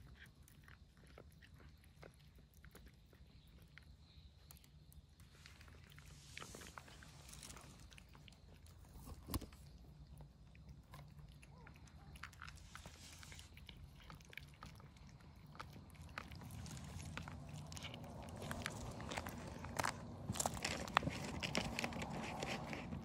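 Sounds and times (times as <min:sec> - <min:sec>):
cats crunching dry kibble: 0:00.0 - 0:23.0.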